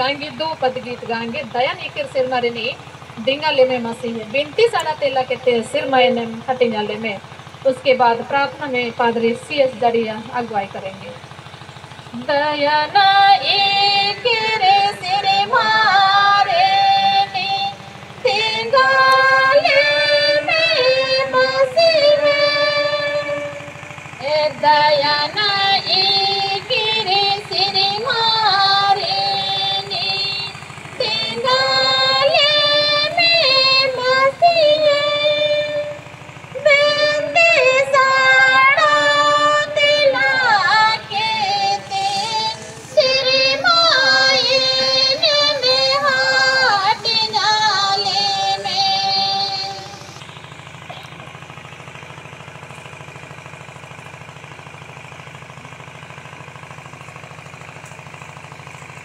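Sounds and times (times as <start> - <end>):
woman singing through loudspeakers: 0.0 - 11.2, 12.2 - 50.2.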